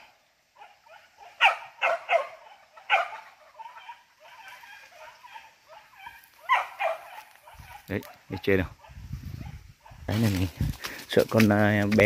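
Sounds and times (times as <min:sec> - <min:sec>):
dogs yelping: 0:00.0 - 0:10.1
dogs barking: 0:00.0 - 0:10.2.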